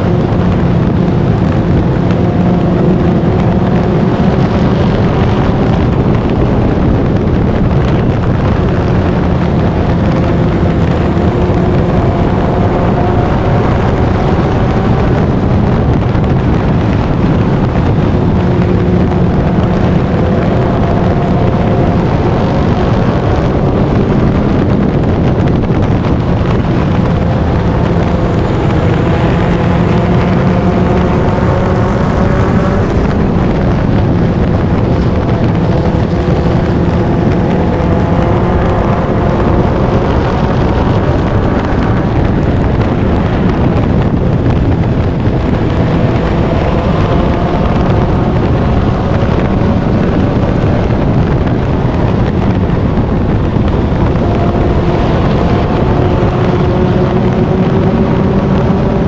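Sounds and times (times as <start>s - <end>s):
racing car engine: 0.0s - 59.0s
wind and road noise: 0.0s - 59.0s.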